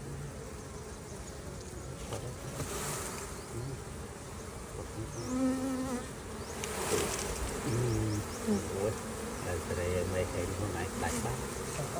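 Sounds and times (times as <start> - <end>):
bees buzzing: 0.0 - 11.9
single bee buzzing close: 0.0 - 11.9.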